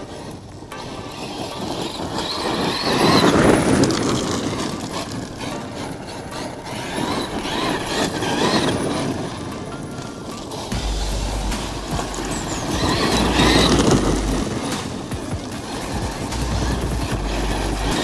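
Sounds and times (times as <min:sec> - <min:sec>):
electric motor whining: 0:00.0 - 0:18.0
tyres crunching gravel: 0:00.0 - 0:18.0.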